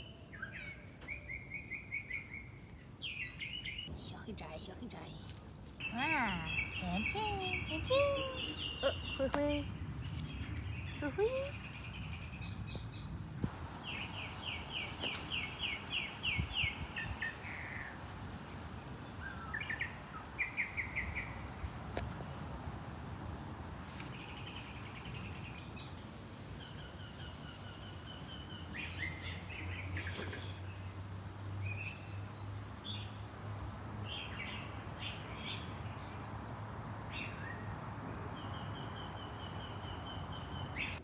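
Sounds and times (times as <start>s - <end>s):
songbird chirping: 0.0s - 41.0s.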